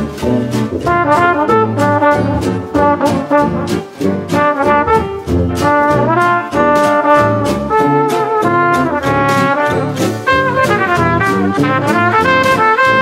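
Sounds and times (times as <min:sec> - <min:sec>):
upbeat brass band music: 0:00.0 - 0:13.0.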